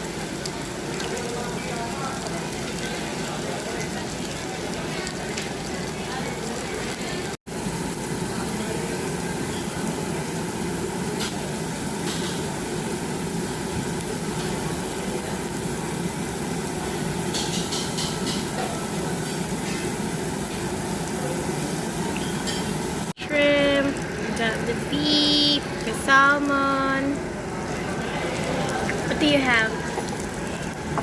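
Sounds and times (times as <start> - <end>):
restaurant ambience hum: 0.0 - 31.0.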